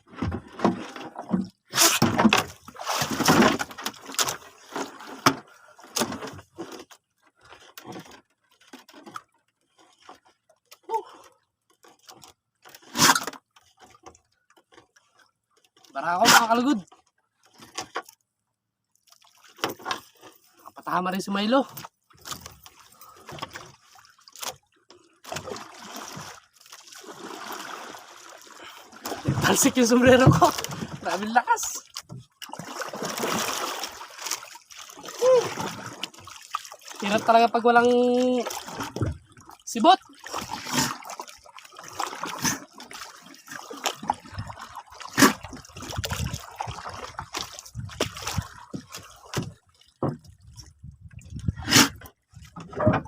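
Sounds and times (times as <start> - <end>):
water splashing around a boat: 0.0 - 53.0.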